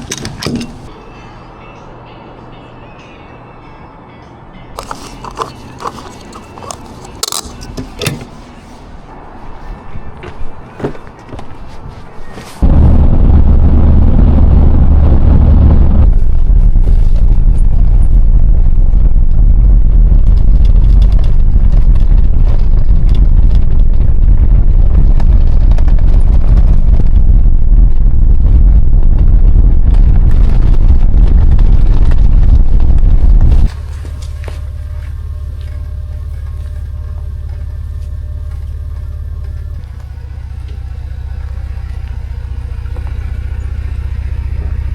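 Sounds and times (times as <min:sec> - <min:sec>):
vehicle low rumble: 0:00.0 - 0:44.9.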